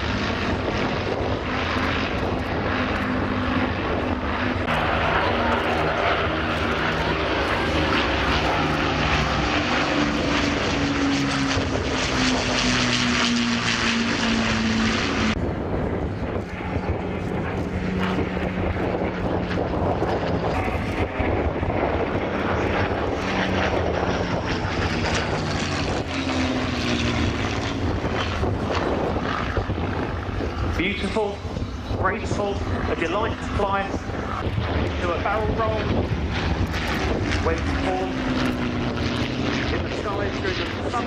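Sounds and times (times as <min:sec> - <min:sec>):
piston aircraft engine: 0:00.0 - 0:41.0
propeller aircraft flying past: 0:00.0 - 0:41.0.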